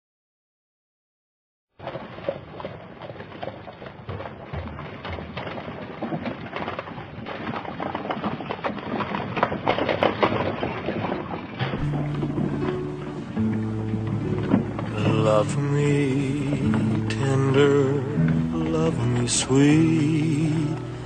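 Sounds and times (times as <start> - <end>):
horse hooves clopping on pavement: 1.8 - 21.0.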